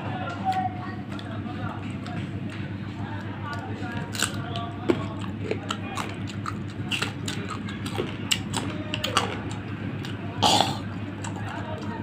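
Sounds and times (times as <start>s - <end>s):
mango crunching: 0.2s - 12.0s.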